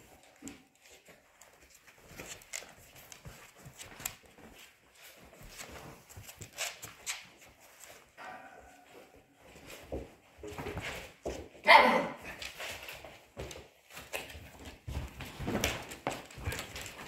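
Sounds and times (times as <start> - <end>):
puppies pawing and rustling: 0.0 - 11.6, 12.2 - 17.0.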